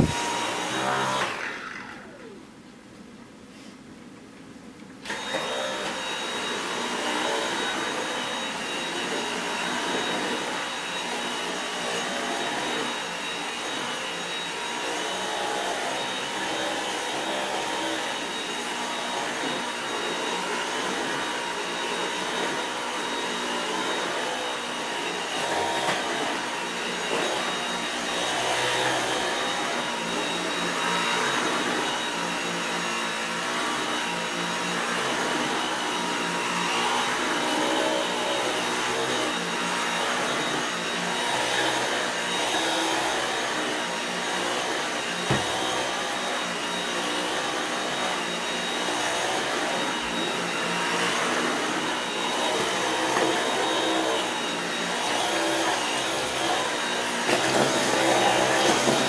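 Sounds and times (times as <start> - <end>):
vacuum cleaner whining: 0.0 - 2.7, 5.0 - 59.0.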